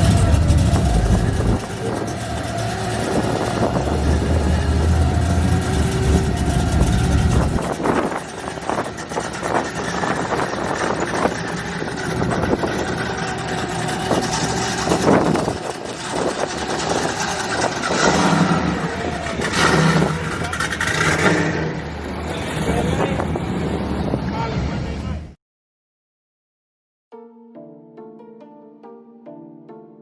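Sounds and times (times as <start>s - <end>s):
car engine rumbling: 0.0s - 25.4s.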